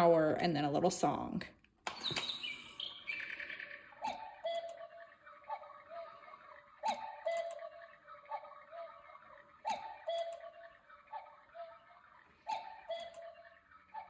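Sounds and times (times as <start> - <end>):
cuckoo clock call: 1.9 - 14.0.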